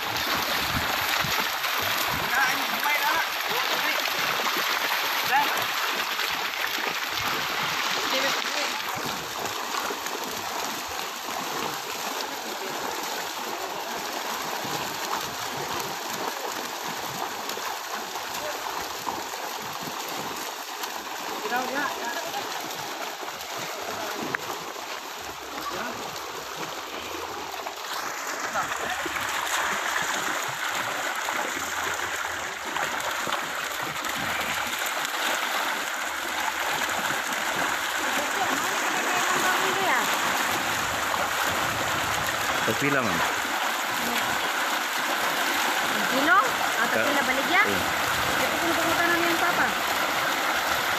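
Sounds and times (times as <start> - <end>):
fish splashing at water surface: 0.0 - 50.9.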